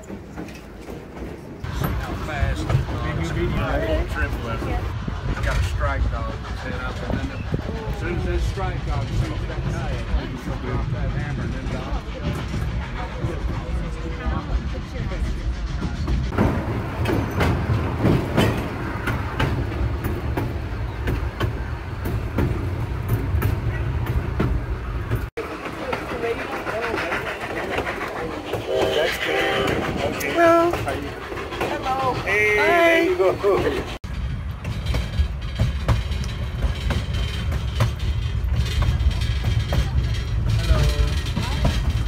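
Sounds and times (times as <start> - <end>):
train rumbling over bridge: 0.0 - 42.0
wheels clacking over rail joints: 0.0 - 42.0.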